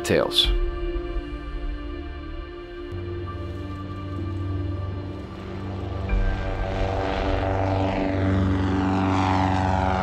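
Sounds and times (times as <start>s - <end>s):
background music with soft chords: 0.0s - 10.0s.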